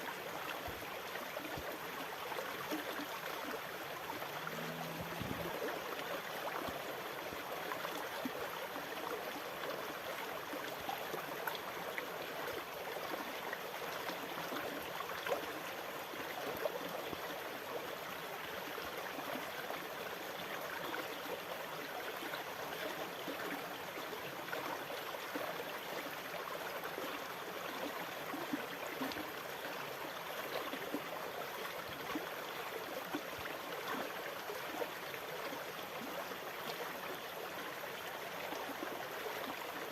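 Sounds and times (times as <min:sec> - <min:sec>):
running water: 0:00.1 - 0:39.9.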